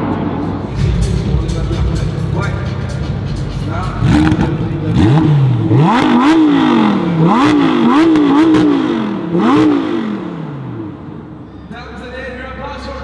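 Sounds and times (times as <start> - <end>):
sports car engine revving: 0.0 - 11.6.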